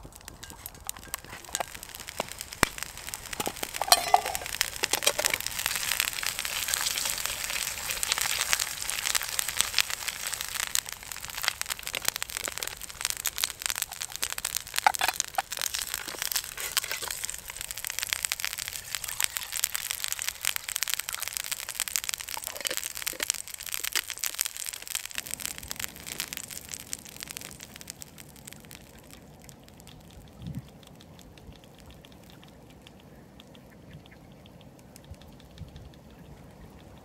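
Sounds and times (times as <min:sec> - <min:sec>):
crunching and crackling: 0:00.0 - 0:33.8.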